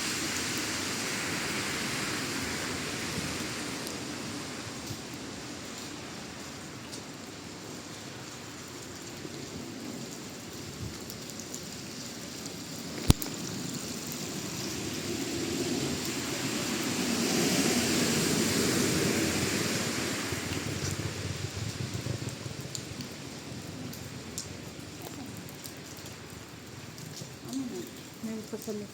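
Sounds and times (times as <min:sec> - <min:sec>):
rain falling on street: 0:00.0 - 0:28.9
vehicle passing on wet road: 0:00.0 - 0:28.9.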